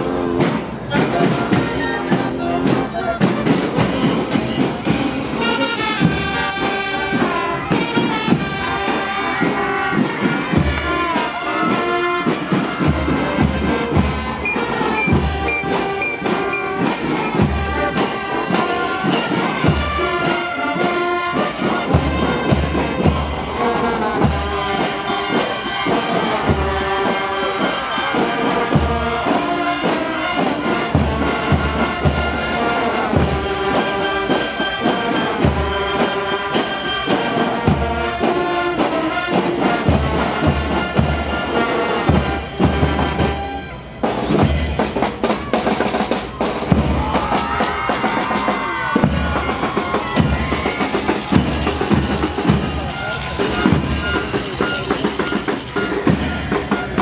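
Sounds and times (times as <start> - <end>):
marching band playing: 0.0 - 57.0.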